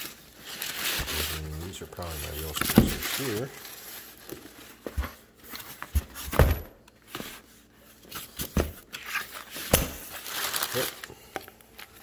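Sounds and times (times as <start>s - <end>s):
packing paper rustling: 0.0s - 6.2s, 7.1s - 12.0s.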